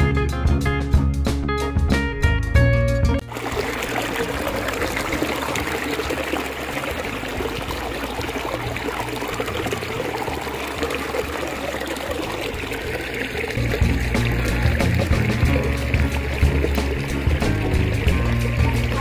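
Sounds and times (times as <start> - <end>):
stream water pouring over ledge: 3.2 - 19.0.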